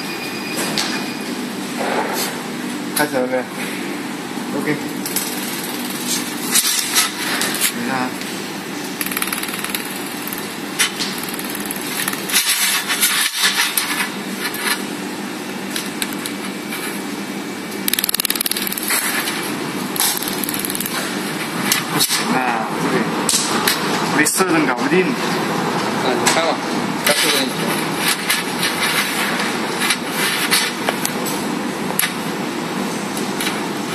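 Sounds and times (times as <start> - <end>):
workshop machine running: 0.0 - 33.9.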